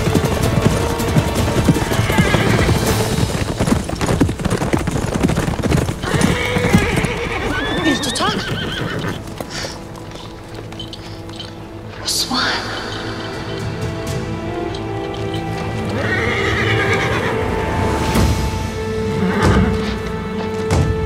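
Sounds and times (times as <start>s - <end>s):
horse hoofbeats on dirt: 0.0s - 11.9s, 12.7s - 21.0s
horse whinnying: 0.0s - 18.2s, 19.1s - 20.1s.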